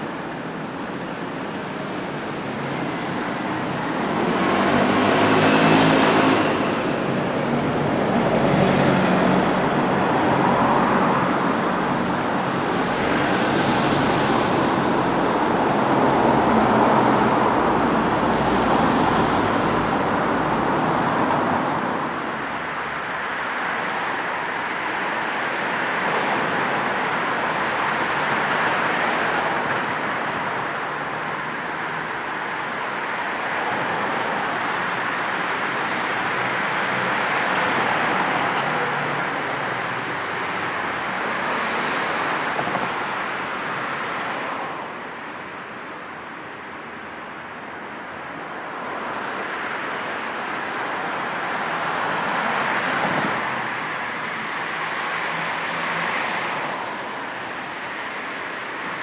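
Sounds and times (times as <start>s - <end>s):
steady traffic hum: 0.0s - 59.0s
vehicles passing: 0.0s - 59.0s.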